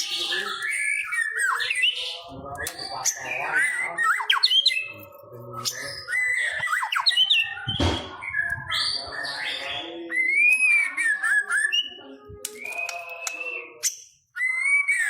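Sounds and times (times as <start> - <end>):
bird singing whistles and chirps: 0.0 - 5.0, 5.6 - 15.0.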